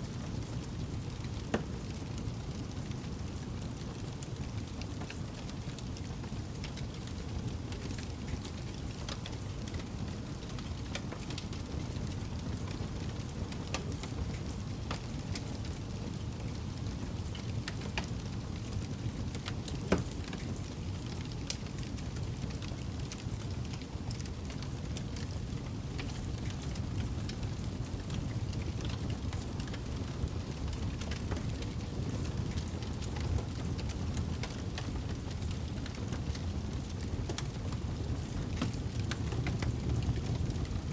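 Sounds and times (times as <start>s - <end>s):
campfire burning and crackling: 0.0s - 40.9s.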